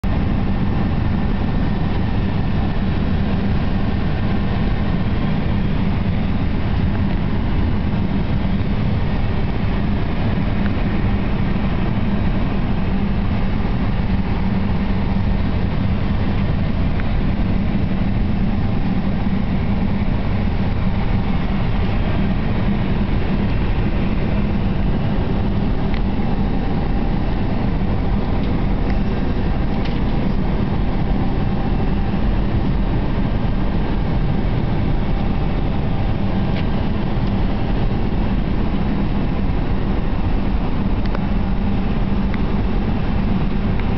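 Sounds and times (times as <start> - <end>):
cockpit ventilation rushing hum: 0.0 - 43.9
low steady drone: 0.0 - 43.9.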